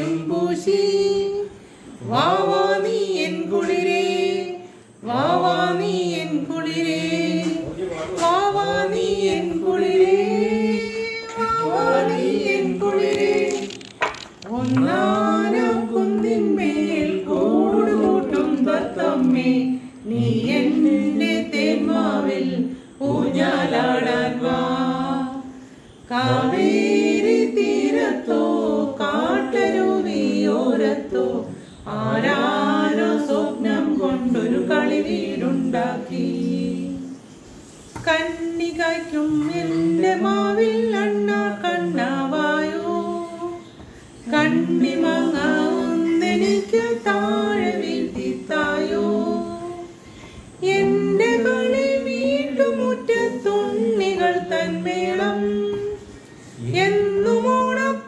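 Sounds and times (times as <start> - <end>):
group singing unaccompanied: 0.0 - 58.0.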